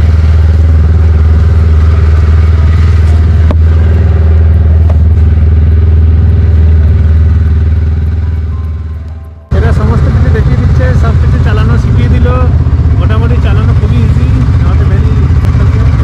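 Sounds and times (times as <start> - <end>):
snowmobile engine idling: 0.0 - 16.0.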